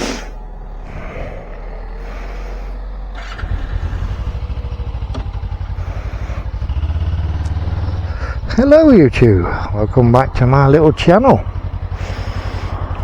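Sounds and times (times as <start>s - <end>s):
motorcycle engine starting and idling: 0.0s - 13.0s.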